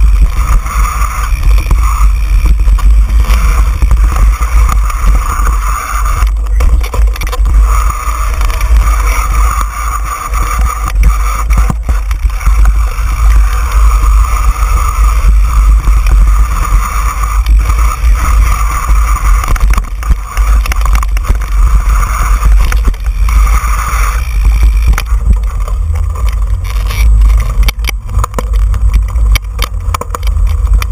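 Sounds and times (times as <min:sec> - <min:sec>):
bike rattling over bumps: 0:00.0 - 0:30.9
wind buffeting microphone: 0:00.0 - 0:30.9.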